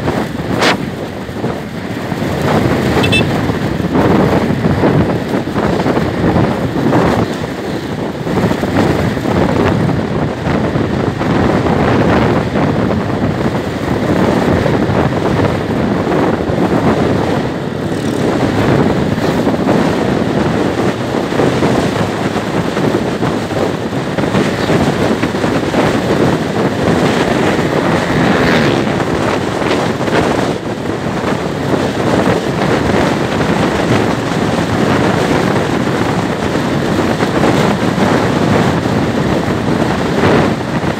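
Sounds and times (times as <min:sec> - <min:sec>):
motorcycle engine cruising: 0:00.0 - 0:40.9
wind rushing over microphone: 0:00.0 - 0:40.9.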